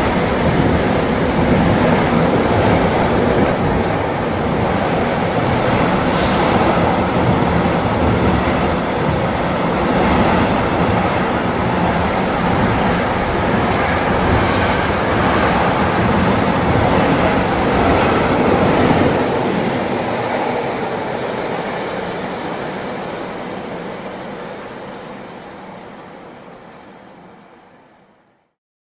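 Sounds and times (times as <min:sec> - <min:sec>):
train rumbling past: 0:00.0 - 0:28.2.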